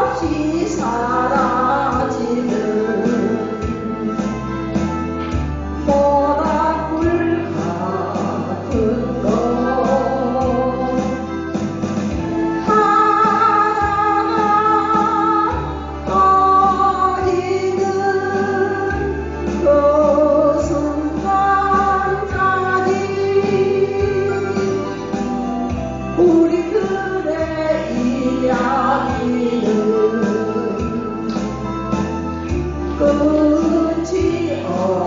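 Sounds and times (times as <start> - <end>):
woman singing slow song: 0.0 - 4.5, 5.8 - 11.4, 12.2 - 31.6, 32.5 - 35.0
instrumental accompaniment with bass: 0.0 - 35.0.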